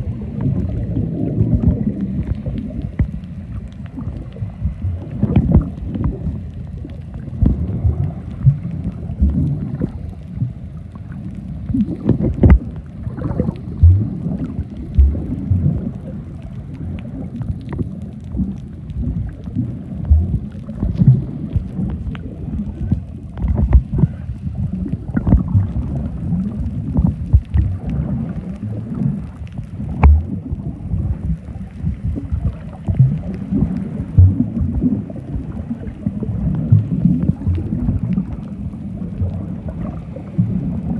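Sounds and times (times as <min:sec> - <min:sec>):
underwater water noise: 0:00.0 - 0:40.9.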